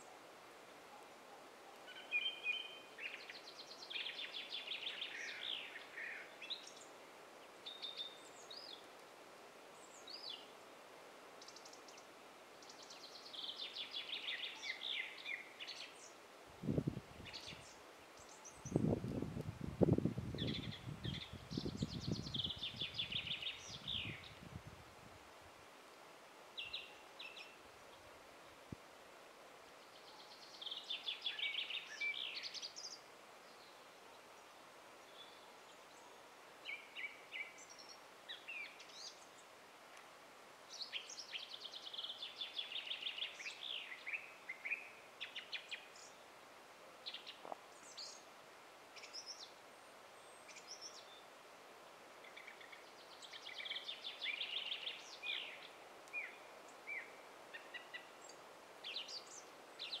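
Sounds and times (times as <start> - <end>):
faint outdoor hiss: 0.0 - 60.0.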